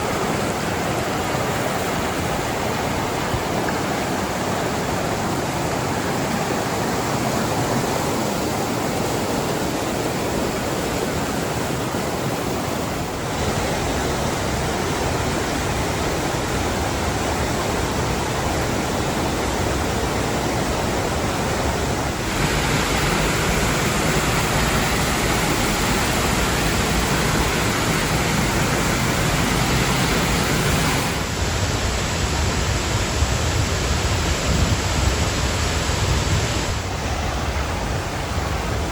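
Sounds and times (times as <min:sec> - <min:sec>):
waterfall and creek rushing: 0:00.0 - 0:38.9.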